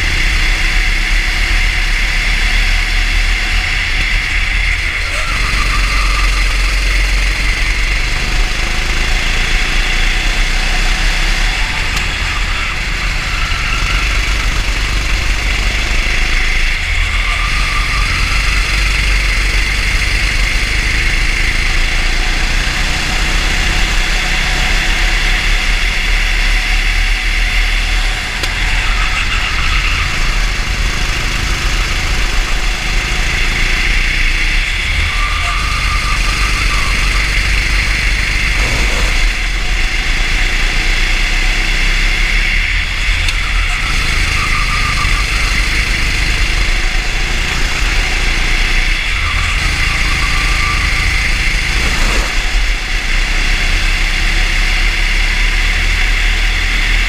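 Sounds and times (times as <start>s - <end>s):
racing kart engine running hard: 0.0s - 57.0s.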